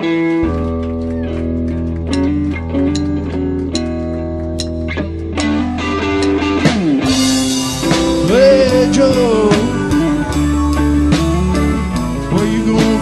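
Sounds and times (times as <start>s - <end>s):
electric guitar lead: 0.0s - 13.0s
rock band playing: 0.0s - 13.0s.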